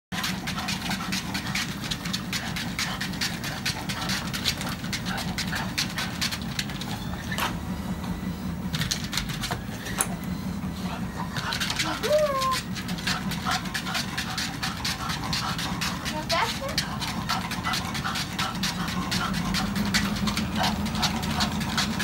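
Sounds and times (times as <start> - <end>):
treadmill humming: 0.1 - 22.0
dog breathing: 0.2 - 7.4, 10.4 - 22.0
dog paws clicking: 0.2 - 7.6, 8.7 - 10.1, 11.3 - 22.0.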